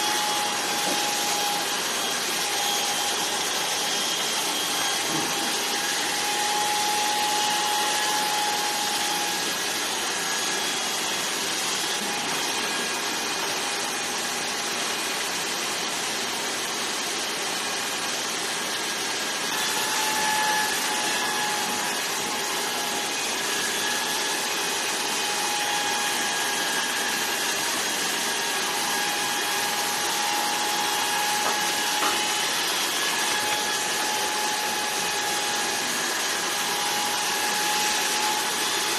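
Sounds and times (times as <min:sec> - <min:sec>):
electric hair clippers running: 0:00.0 - 0:38.9.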